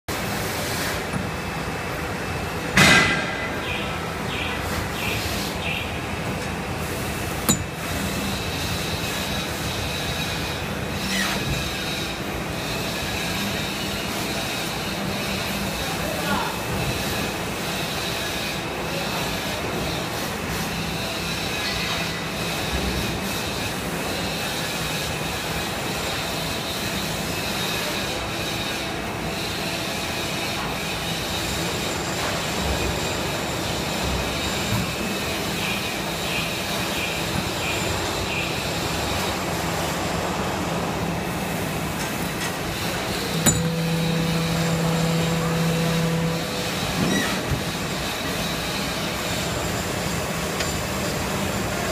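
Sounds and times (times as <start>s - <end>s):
loud droning hum: 0.1s - 51.9s
machine humming and hissing: 0.1s - 51.9s.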